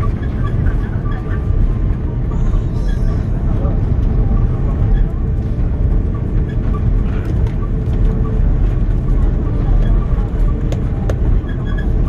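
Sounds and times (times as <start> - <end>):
aircraft engine noise: 0.0 - 12.0
wheel rumble: 0.0 - 12.0.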